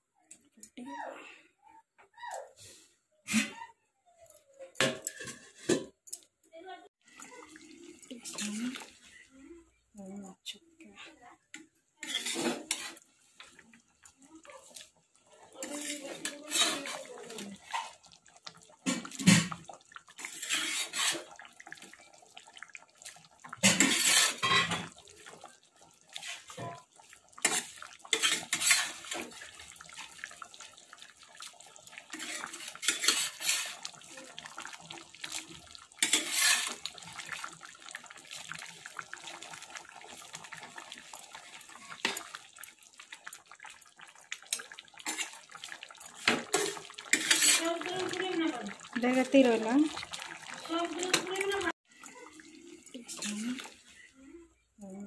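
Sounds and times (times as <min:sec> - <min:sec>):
curry bubbling: 0:06.9 - 0:10.9, 0:12.0 - 0:54.7.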